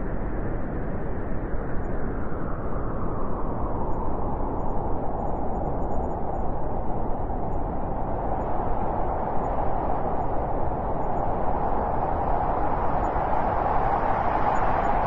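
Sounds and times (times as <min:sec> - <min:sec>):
steady rushing outdoor noise: 0:00.2 - 0:15.0.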